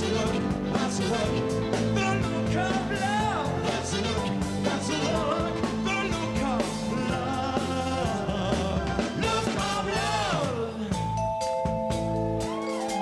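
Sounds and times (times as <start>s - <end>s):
man singing: 0.0s - 11.2s
live pop band playing: 0.0s - 13.0s.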